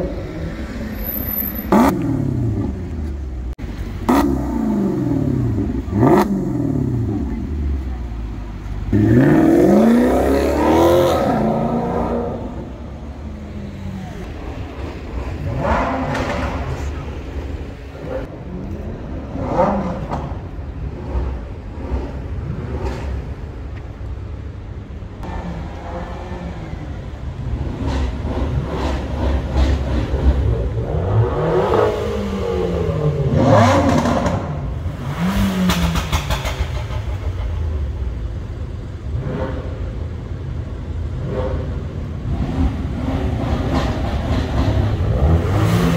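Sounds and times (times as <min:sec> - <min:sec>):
sports car engines revving: 0:00.0 - 0:45.9.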